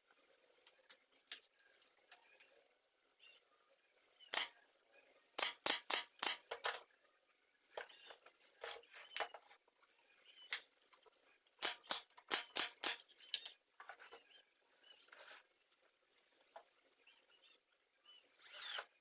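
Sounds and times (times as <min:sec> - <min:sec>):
faint high-pitched chirr: 0:00.0 - 0:19.0.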